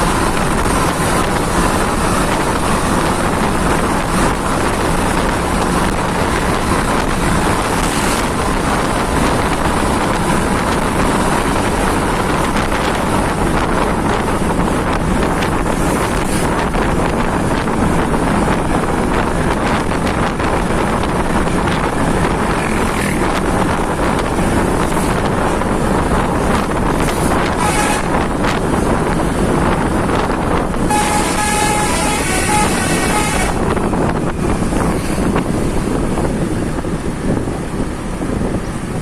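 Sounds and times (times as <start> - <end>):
vehicle rumble: 0.0 - 39.0
wind buffeting microphone: 0.0 - 39.0.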